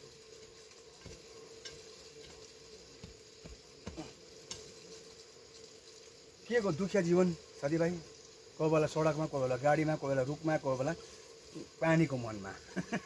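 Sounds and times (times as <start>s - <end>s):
soil and leaves rustling: 0.0s - 13.0s.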